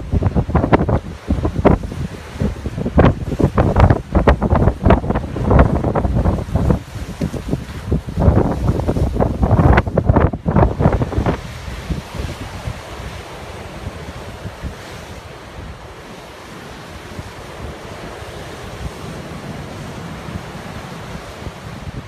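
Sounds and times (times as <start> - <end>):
heavy surf breaking on beach: 0.0 - 22.0
wind buffeting microphone: 0.0 - 22.0.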